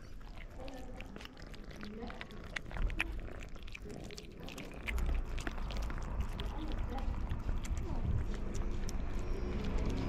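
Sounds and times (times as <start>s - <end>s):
kittens chewing food: 0.0s - 10.0s.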